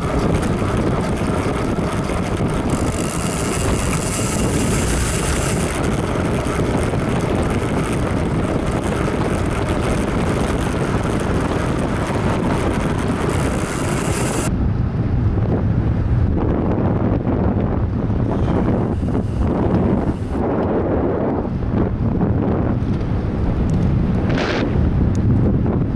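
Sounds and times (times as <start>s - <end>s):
low road rumble: 0.0s - 25.9s
wind buffeting microphone: 0.0s - 25.9s.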